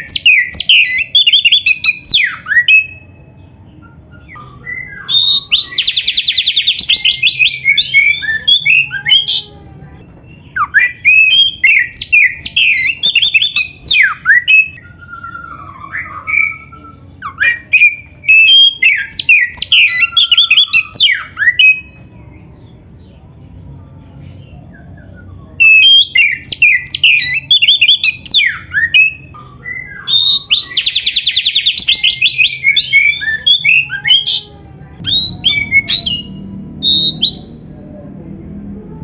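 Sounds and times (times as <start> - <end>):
songbird singing varied song: 0.0 - 23.3, 24.1 - 37.7.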